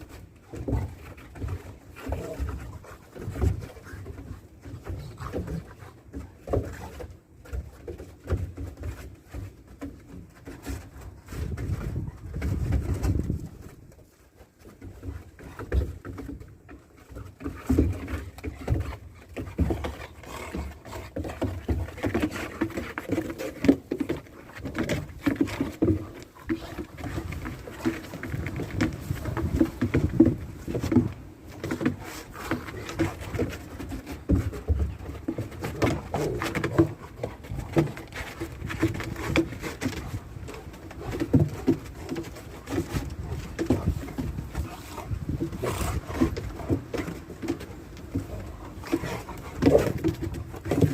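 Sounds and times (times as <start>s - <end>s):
dogs playing noises: 0.0s - 50.9s.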